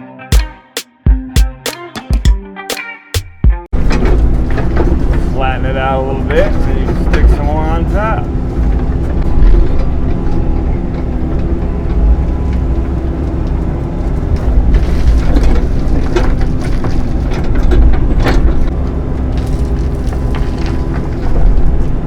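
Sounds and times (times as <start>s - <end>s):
diesel engine running under load: 3.7s - 22.0s
excavator bucket scraping and clanking: 3.7s - 22.0s.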